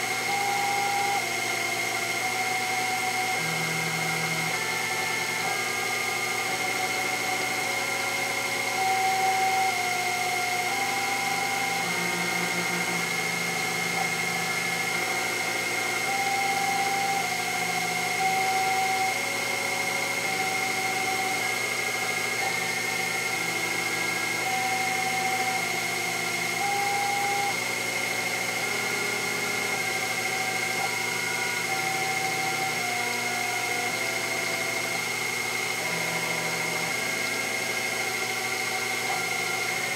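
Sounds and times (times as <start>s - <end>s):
milling spindle whining: 0.0s - 39.9s
stepper motors singing tones: 0.0s - 39.9s.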